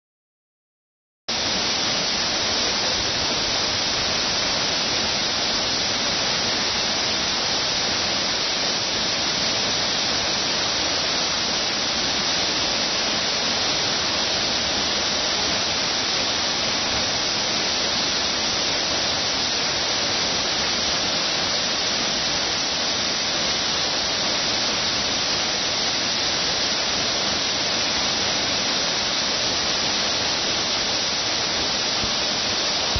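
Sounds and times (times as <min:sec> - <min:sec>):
waterfall rushing: 0:01.3 - 0:32.9.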